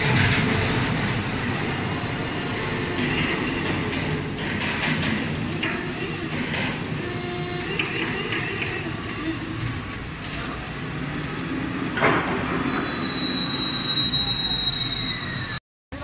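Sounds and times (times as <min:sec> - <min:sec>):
forklift engines rumbling: 0:00.0 - 0:16.0.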